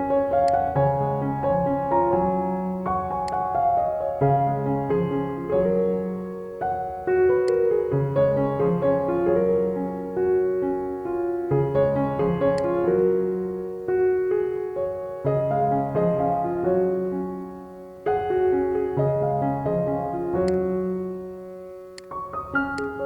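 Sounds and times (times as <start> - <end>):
keyboard piano melody: 0.0 - 23.0.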